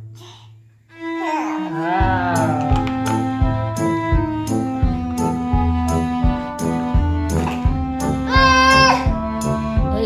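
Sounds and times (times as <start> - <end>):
background music with steady beat: 0.8 - 10.0.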